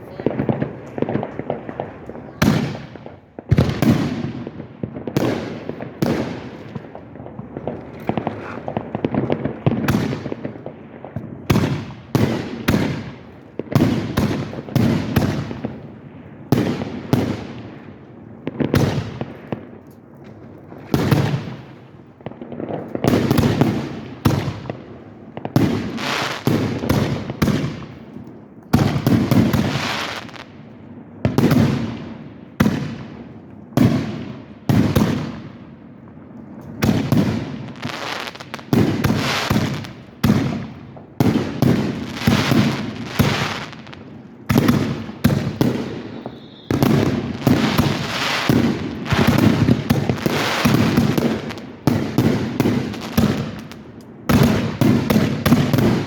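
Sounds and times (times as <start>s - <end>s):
fireworks bursting with echo: 0.0s - 56.0s.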